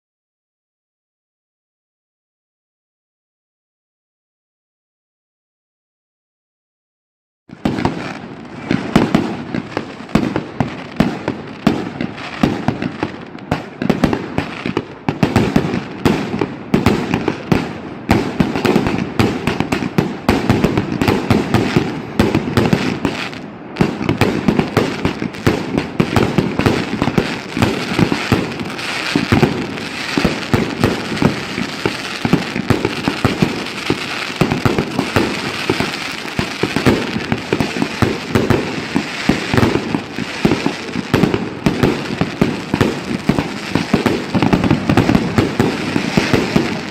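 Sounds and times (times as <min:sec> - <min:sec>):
fireworks bangs and crackles: 0:07.5 - 0:46.9.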